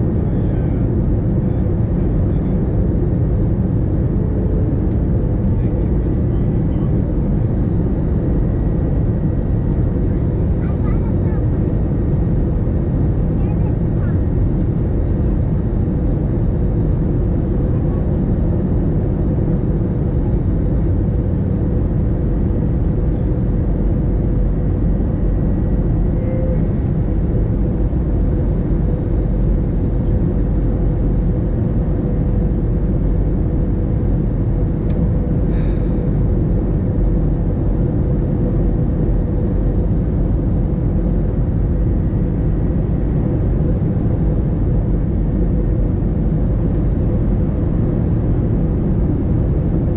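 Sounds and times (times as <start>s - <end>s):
airliner cabin engine rumble: 0.0s - 49.9s
steady cabin hum: 2.4s - 49.9s.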